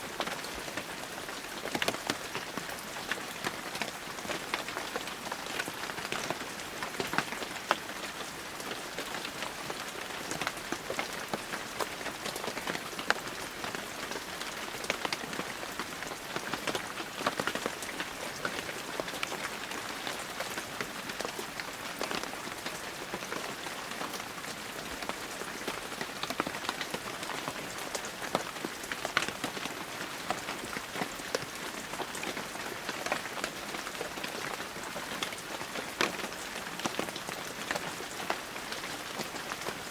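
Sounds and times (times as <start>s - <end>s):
heavy rain falling: 0.1s - 39.9s
raindrops striking close by: 0.1s - 39.9s.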